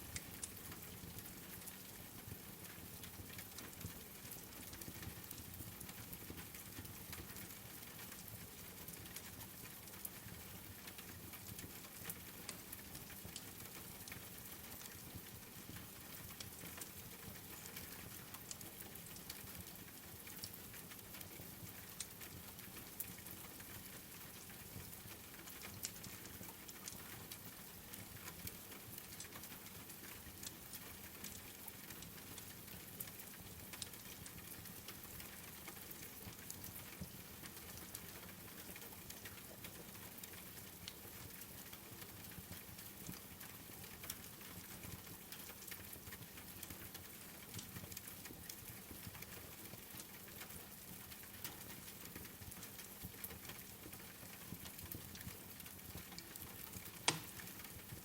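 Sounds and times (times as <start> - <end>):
steady rain: 0.0 - 58.0
wood fire crackling: 8.1 - 58.0.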